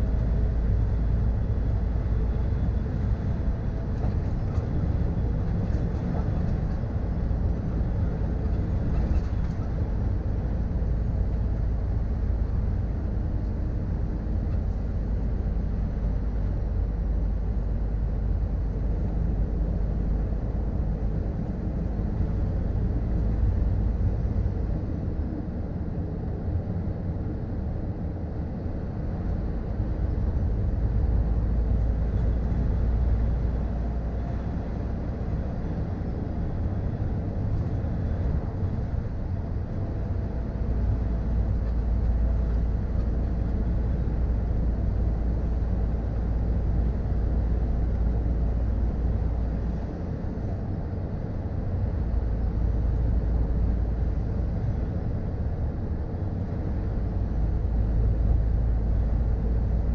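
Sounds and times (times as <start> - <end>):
truck engine and road drone: 0.0 - 59.9.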